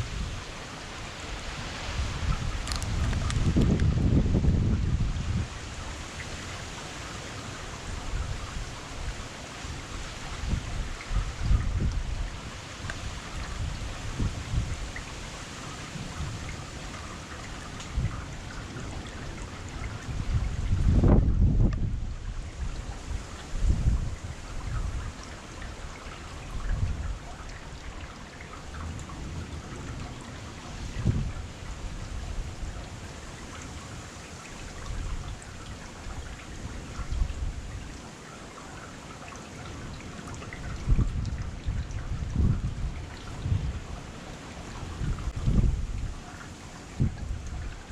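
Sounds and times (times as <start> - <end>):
wind buffeting microphone: 0.0 - 38.0, 39.6 - 47.9
steady rain: 0.0 - 47.9.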